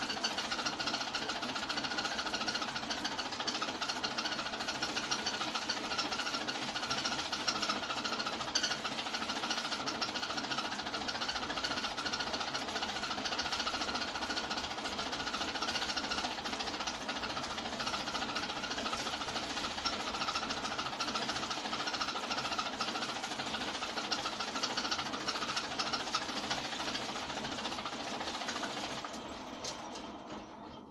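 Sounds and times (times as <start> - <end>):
film projector clattering: 0.0 - 30.9.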